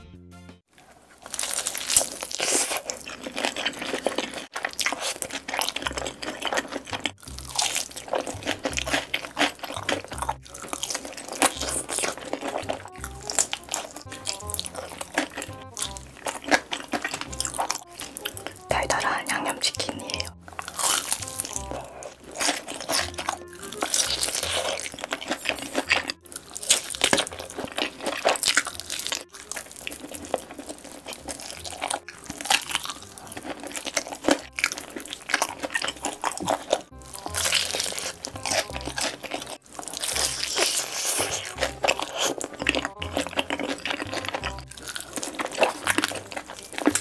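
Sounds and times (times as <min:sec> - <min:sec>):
crunching of crisp fried chicken: 0:00.7 - 0:47.0
wet chewing: 0:00.7 - 0:47.0.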